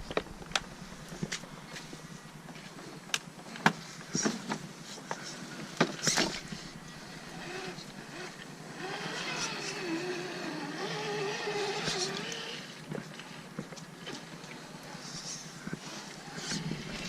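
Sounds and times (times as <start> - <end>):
electric motor and gears whining: 0.0 - 15.0, 15.7 - 17.0.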